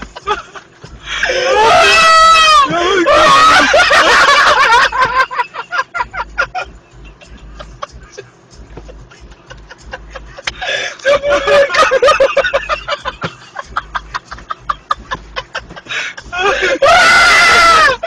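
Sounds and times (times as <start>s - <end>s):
people laughing hard: 0.0s - 18.0s.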